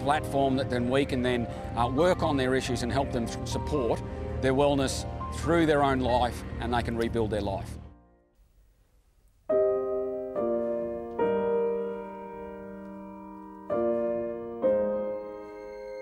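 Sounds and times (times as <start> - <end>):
slow piano chords: 0.0 - 8.2, 9.5 - 16.0.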